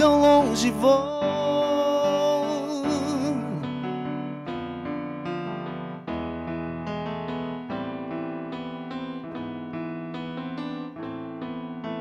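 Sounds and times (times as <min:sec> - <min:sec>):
electric piano ballad: 0:00.0 - 0:12.0.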